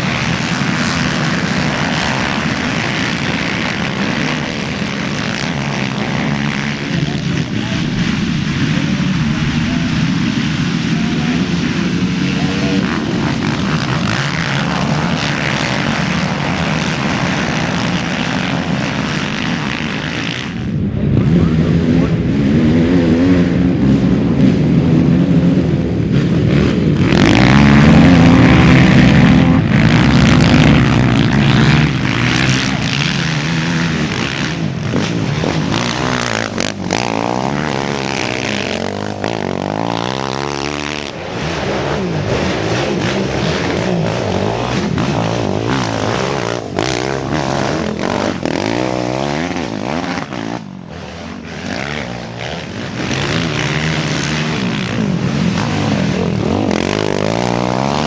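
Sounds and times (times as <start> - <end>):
quad engines revving: 0.0 - 58.0.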